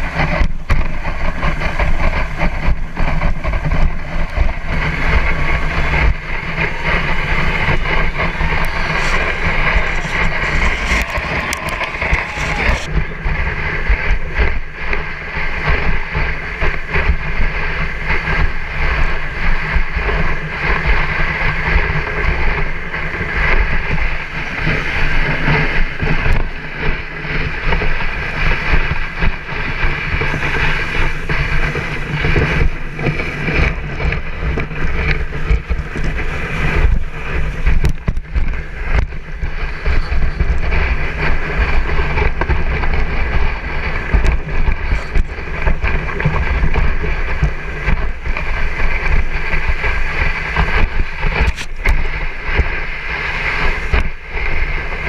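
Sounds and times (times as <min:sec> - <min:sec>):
sled runners scraping over snow: 0:00.0 - 0:55.0
wind buffeting microphone: 0:00.0 - 0:55.0.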